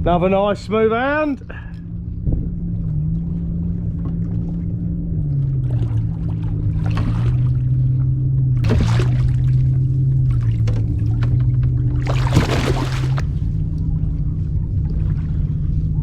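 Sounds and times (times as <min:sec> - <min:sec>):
boat engine droning: 0:00.0 - 0:16.0
knocks and splashes near kayak: 0:01.6 - 0:15.5.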